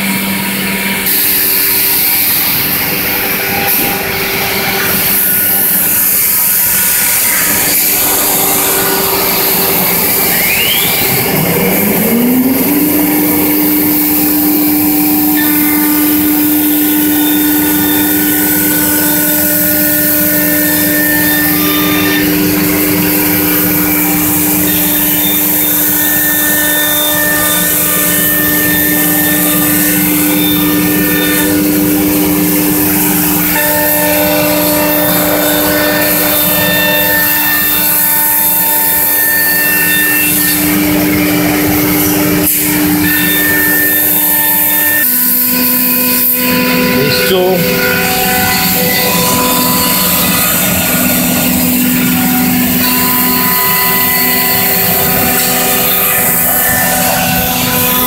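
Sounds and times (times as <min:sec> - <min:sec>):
router spindle whining: 0:00.0 - 0:58.0.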